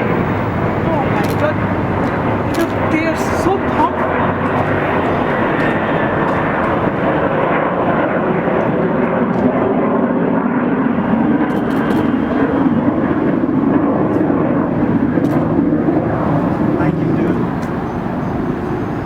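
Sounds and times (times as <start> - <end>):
jet engines flying overhead: 0.0 - 19.0.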